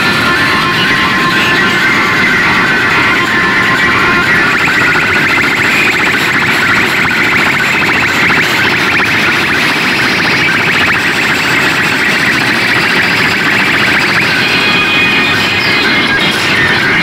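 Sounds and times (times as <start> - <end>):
loud harsh buzzing speaker din: 0.0 - 17.0.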